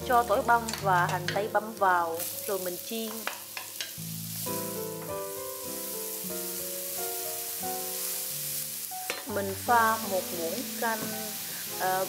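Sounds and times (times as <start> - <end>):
background music melody: 0.0 - 12.0
onion and garlic sizzling in pan: 0.0 - 12.0.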